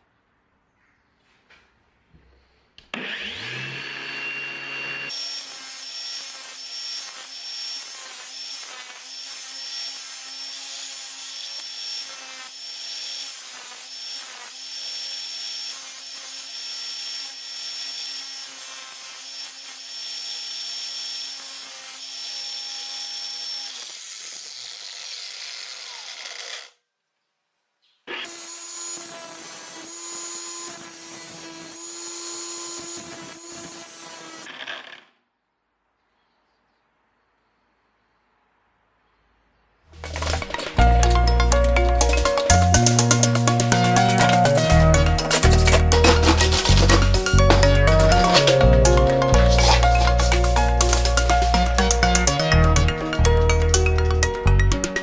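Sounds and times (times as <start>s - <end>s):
electric angle grinder whining: 2.8s - 26.8s, 28.1s - 35.1s, 40.0s - 54.5s.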